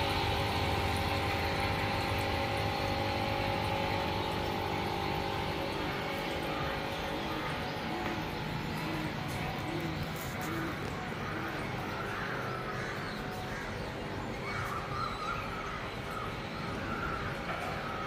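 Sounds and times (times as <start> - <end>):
electric pump humming: 0.0 - 18.0.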